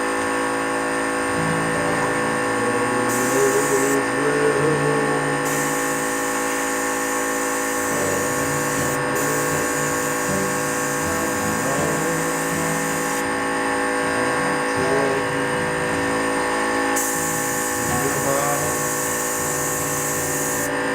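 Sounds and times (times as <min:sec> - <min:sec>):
electric paint spray gun whine: 0:00.0 - 0:20.9.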